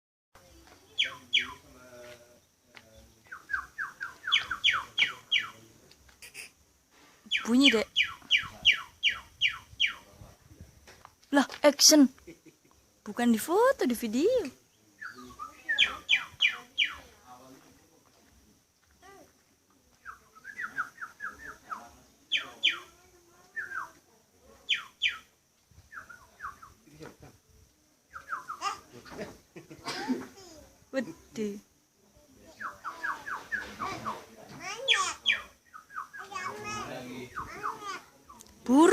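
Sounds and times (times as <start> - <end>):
songbird chirping: 0.4 - 38.9.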